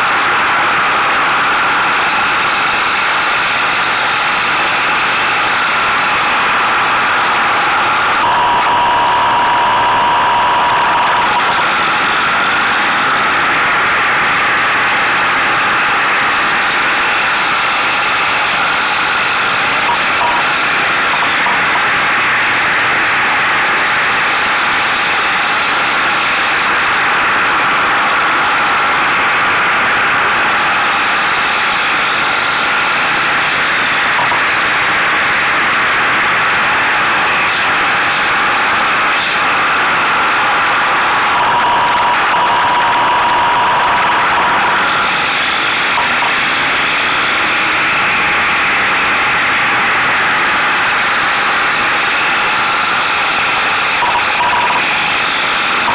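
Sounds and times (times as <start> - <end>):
motorcycle engine: 0.0 - 55.9.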